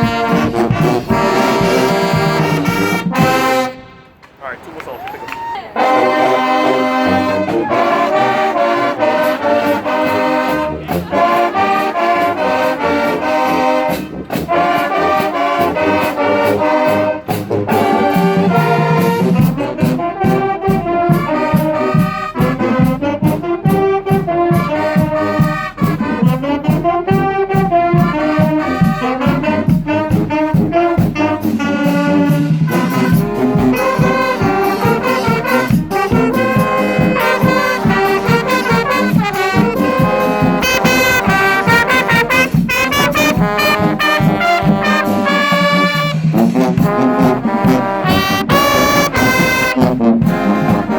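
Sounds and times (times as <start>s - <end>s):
drums beating: 0.0s - 3.7s, 7.0s - 50.9s
marching band brass tune: 0.0s - 50.9s.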